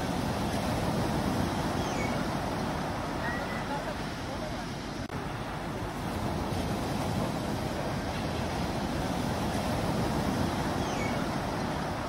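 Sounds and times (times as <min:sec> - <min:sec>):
sea surf rushing: 0:00.0 - 0:12.0
wind buffeting microphone: 0:00.0 - 0:12.0.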